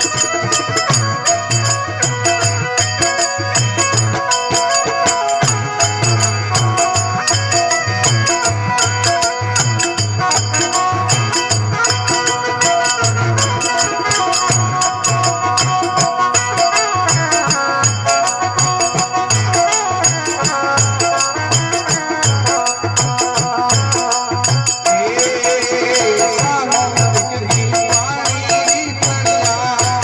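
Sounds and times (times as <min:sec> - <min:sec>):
drum steady beat: 0:00.0 - 0:30.0
jingling hand percussion: 0:00.0 - 0:30.0.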